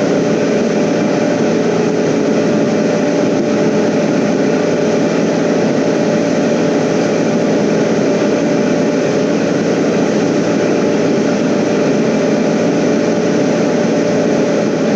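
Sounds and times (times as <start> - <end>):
refrigeration unit droning: 0.0 - 14.9.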